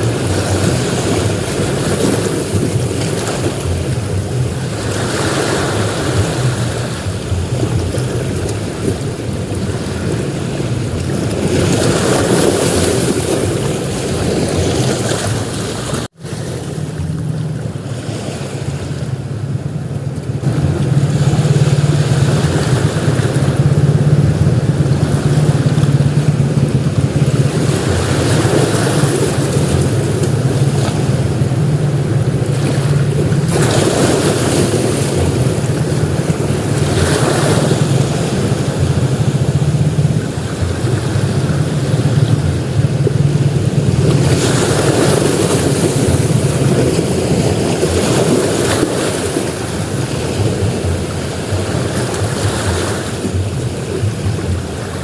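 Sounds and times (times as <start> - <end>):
ocean surf breaking on beach: 0.0 - 55.0
wind rumble on microphone: 0.0 - 55.0.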